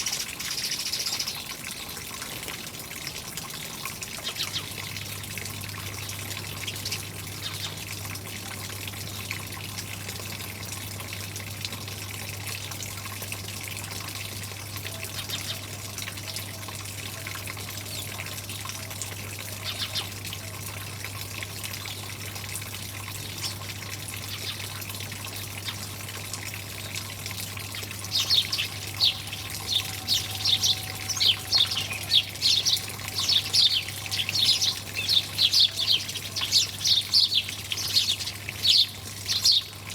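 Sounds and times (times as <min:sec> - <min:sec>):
songbirds chirping: 0:00.0 - 0:09.5, 0:14.7 - 0:22.4, 0:23.1 - 0:39.9
running water: 0:00.0 - 0:39.9.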